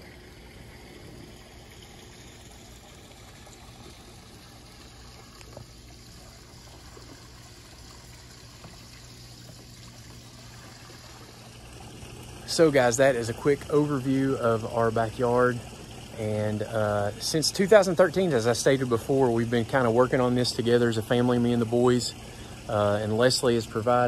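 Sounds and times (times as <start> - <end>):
water trickling into pool: 0.0 - 24.0.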